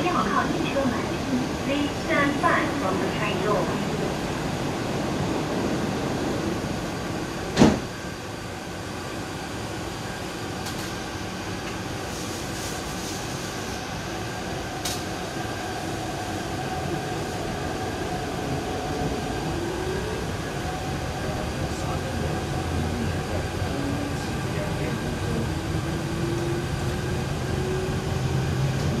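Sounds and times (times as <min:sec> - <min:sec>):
train sliding doors shutting: 0:00.0 - 0:08.4, 0:10.3 - 0:21.0, 0:23.0 - 0:29.0
train interior hum: 0:00.0 - 0:29.0
train whine pulling away: 0:00.0 - 0:29.0.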